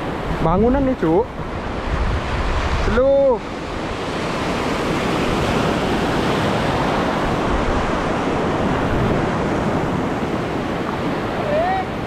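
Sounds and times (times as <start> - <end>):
surf washing over reef: 0.0 - 12.0
wind on microphone: 0.0 - 12.0.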